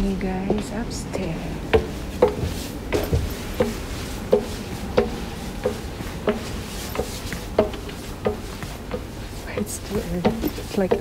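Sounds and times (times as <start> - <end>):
footsteps on metal escalator steps: 0.0 - 11.0.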